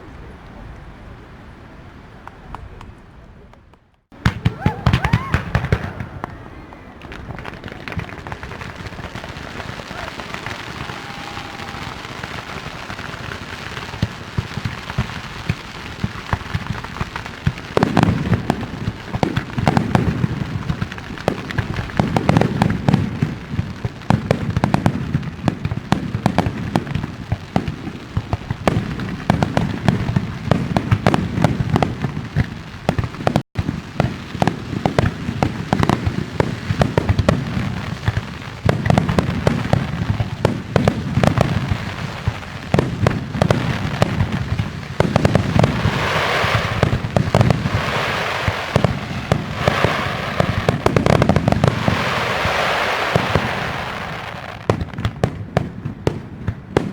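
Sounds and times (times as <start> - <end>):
fireworks crackling: 0.0 - 56.9
rolling booms: 4.1 - 55.4.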